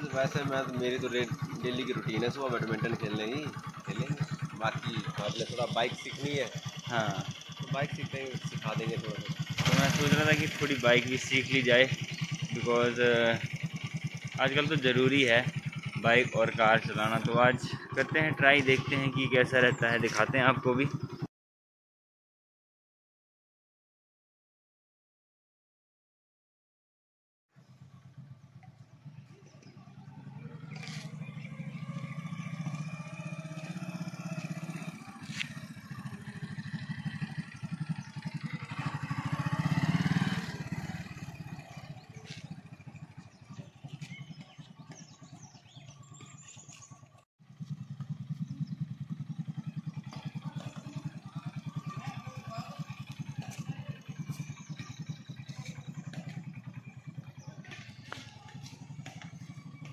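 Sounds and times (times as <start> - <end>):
motorcycle engine revving: 0.0 - 21.3, 27.6 - 59.9.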